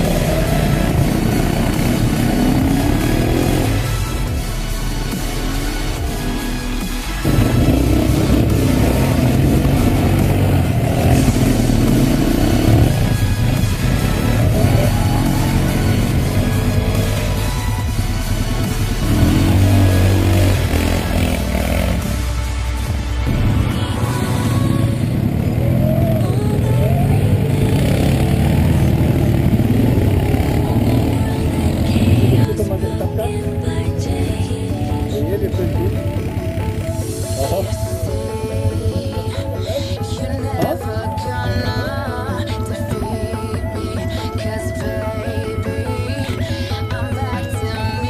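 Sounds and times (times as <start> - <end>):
quad bike engine revving: 0.0 - 48.0.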